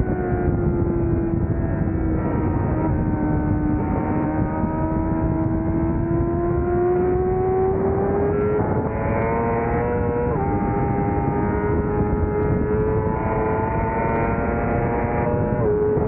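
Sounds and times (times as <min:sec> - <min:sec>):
heavy wind rush: 0:00.0 - 0:16.0
racing motorcycle engine revving: 0:00.0 - 0:16.0.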